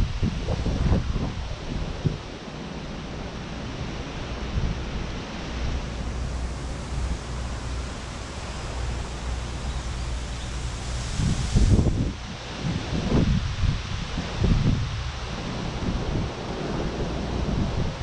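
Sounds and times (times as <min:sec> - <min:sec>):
leaves rustling: 0:00.0 - 0:18.0
wind blowing across microphone: 0:00.0 - 0:18.0.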